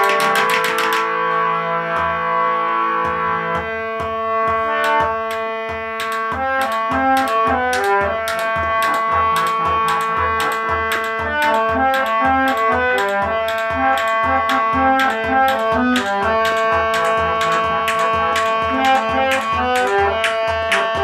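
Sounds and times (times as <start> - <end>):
harmonium playing: 0.0 - 21.0.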